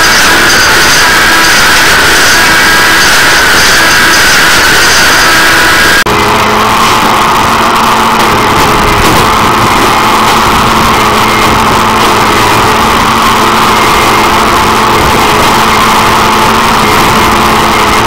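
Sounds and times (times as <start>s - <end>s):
machine engine droning: 0.0s - 18.0s.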